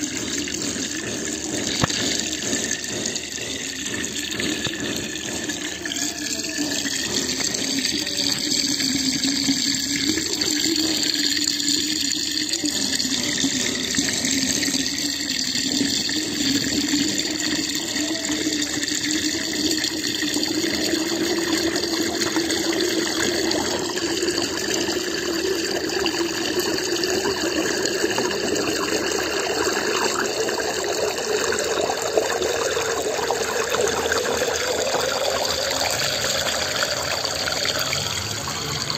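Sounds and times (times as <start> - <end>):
water draining with gurgling: 0.0 - 38.9.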